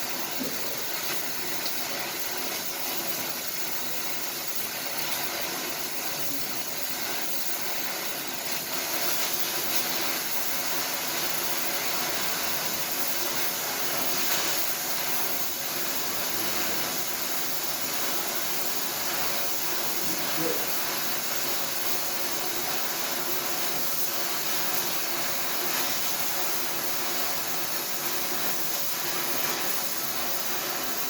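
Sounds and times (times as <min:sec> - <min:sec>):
welding arc hissing and crackling: 0:00.0 - 0:31.0.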